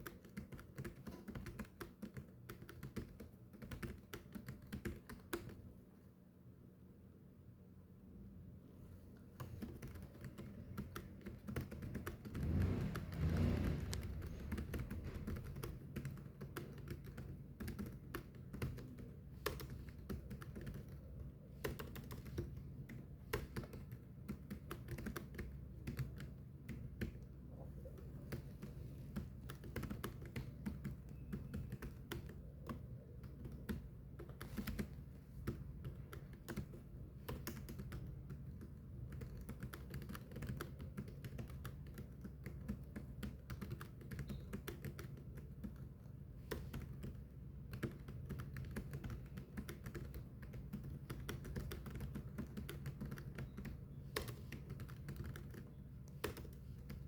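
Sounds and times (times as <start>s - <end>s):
fast typing on a keyboard: 0.0s - 5.7s, 9.4s - 57.0s
faint steady low hum: 0.0s - 57.0s.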